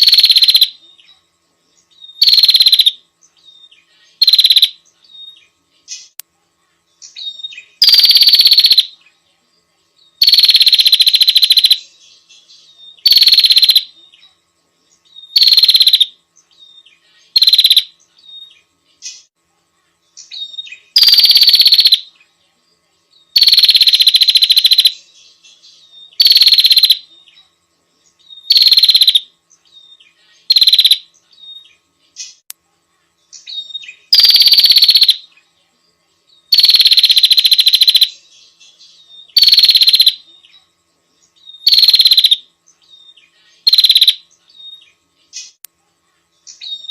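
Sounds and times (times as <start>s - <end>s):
songbird trilling: 0.0s - 1.2s, 1.8s - 6.2s, 7.0s - 9.0s, 10.1s - 19.3s, 20.1s - 22.3s, 23.2s - 27.5s, 28.1s - 32.4s, 33.3s - 35.4s, 36.4s - 40.6s, 41.2s - 45.6s, 46.4s - 46.9s.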